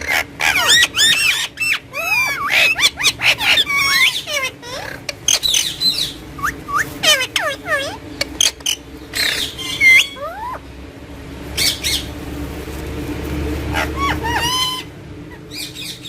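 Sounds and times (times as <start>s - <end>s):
parakeet squawking and chirping: 0.0s - 10.7s, 11.4s - 12.4s, 13.2s - 16.0s
steady low hum: 0.0s - 16.0s.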